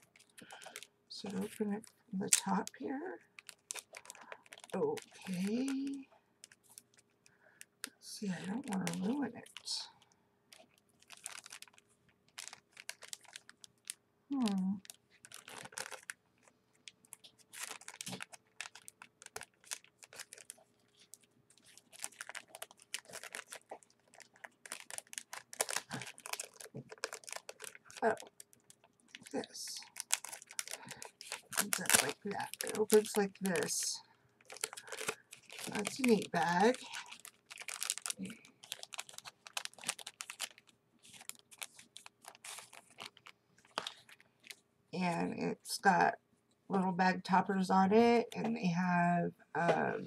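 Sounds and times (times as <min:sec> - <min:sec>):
plastic bag crinkling: 0:00.0 - 0:44.6.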